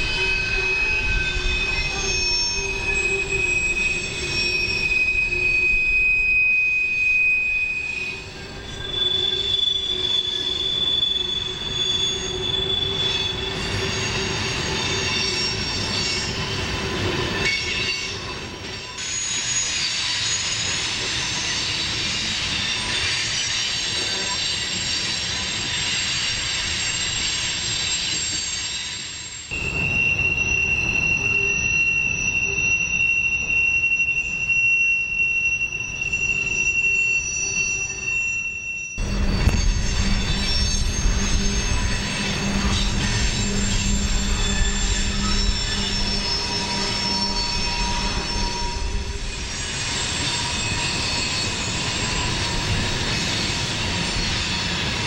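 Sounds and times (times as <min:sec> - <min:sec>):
steel wheels squealing on rails: 0:00.0 - 0:55.0.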